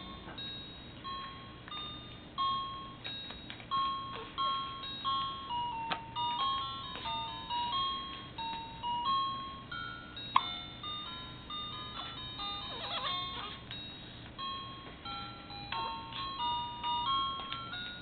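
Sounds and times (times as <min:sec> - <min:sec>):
bell-like melody notes: 0:00.0 - 0:18.0.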